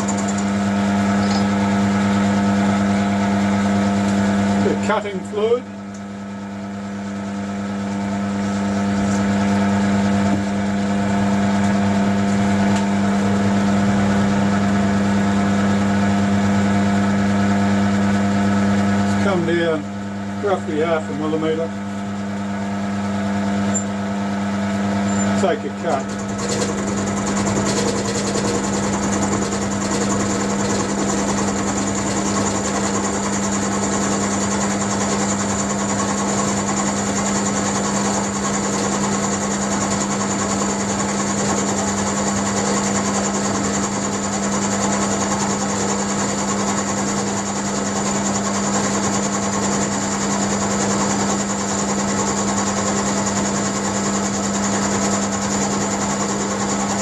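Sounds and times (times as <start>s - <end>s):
motor hum: 0.0s - 57.0s.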